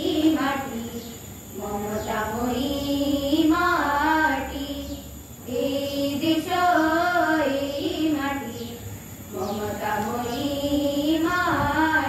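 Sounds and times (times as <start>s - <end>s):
girls singing into microphones: 0.0s - 12.0s.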